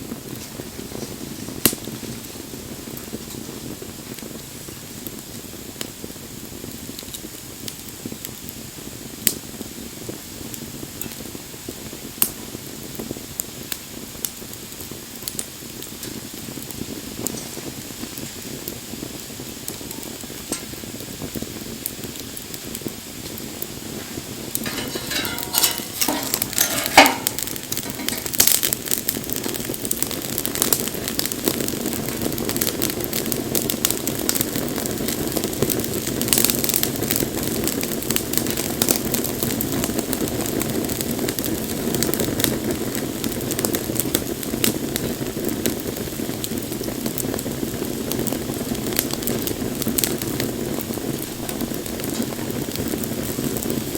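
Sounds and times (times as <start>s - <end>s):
hiss of flame: 0.0s - 53.9s
wood fire crackling and popping: 0.0s - 53.9s.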